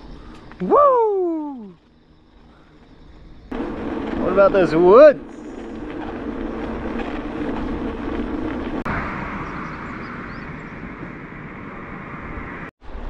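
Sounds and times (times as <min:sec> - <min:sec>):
bicycle rolling with wind noise: 0:01.7 - 0:13.0.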